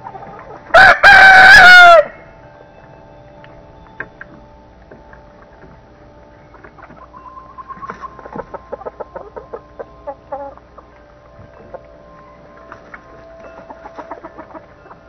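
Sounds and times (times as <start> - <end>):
chickens clucking: 0.0 - 2.1, 4.0 - 15.0.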